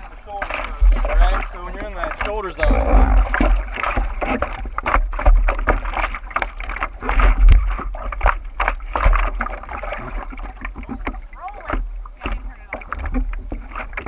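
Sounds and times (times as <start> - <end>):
water splashing against surfboard: 0.0 - 14.0.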